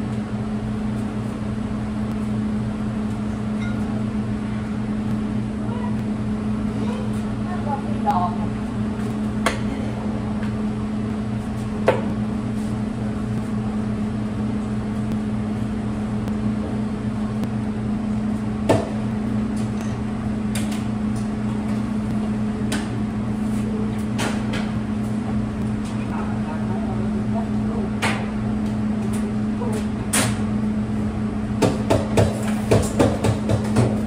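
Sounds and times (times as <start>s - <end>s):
bakery machinery humming: 0.0s - 34.0s.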